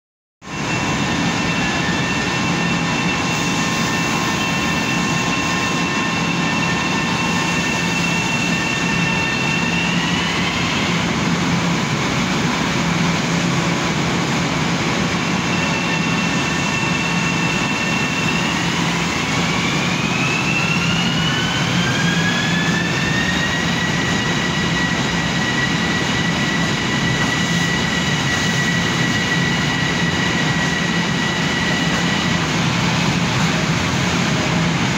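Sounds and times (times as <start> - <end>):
train hum and hiss: 0.4 - 34.9.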